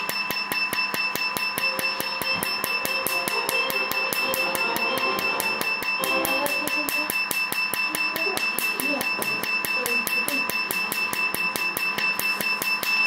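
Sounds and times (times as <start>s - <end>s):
laser device snapping pulses: 0.0s - 13.0s
steady high-pitched tone: 0.0s - 13.0s.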